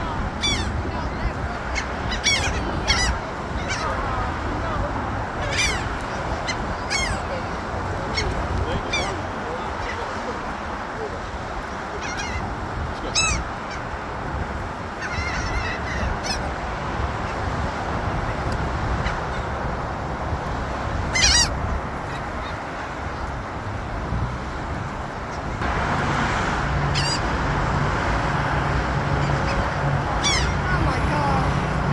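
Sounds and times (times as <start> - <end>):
gulls calling: 0.0 - 23.5, 25.0 - 31.9
outdoor background noise: 0.0 - 31.9.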